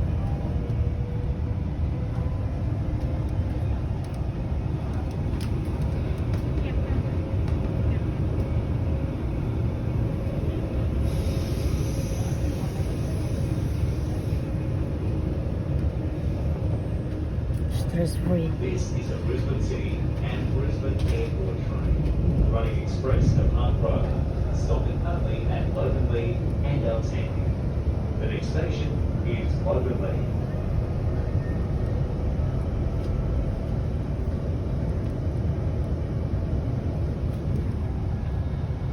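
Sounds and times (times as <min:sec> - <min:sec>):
train interior rumble: 0:00.0 - 0:38.9.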